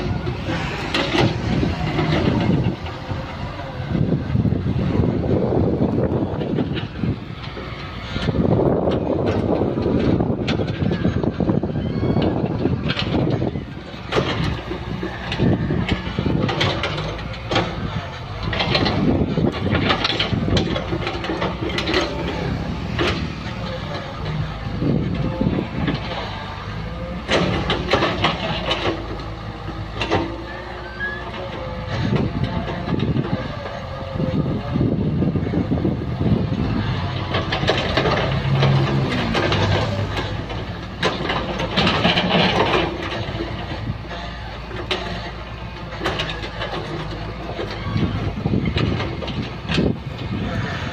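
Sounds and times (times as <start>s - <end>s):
knocks and clanks: 0.0s - 3.2s, 6.4s - 50.9s
excavator diesel engine running: 0.0s - 50.9s.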